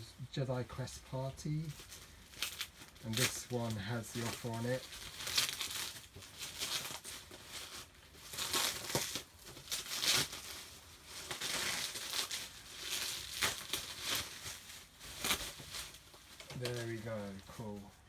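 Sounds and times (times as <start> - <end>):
packaging crinkling: 0.3 - 18.0.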